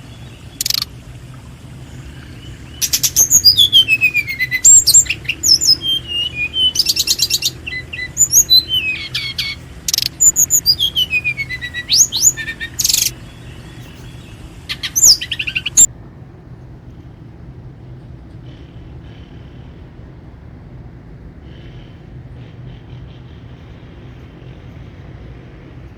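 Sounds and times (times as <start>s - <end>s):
birds singing: 0.0s - 15.9s, 17.0s - 25.9s
low background hum: 0.0s - 25.9s.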